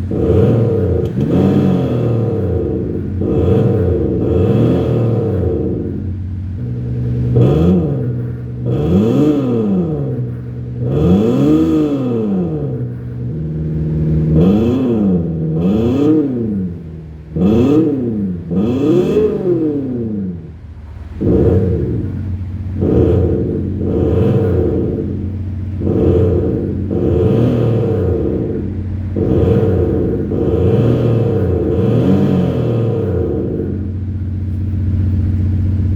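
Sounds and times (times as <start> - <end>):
diesel engine throttle blips: 0.0 - 35.9
steady hum: 0.0 - 35.9.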